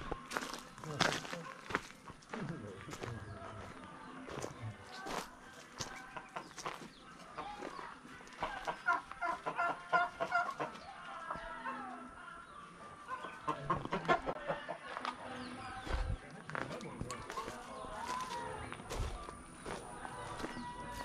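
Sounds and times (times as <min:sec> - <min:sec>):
clucking calls: 0:00.0 - 0:12.2, 0:12.9 - 0:21.0.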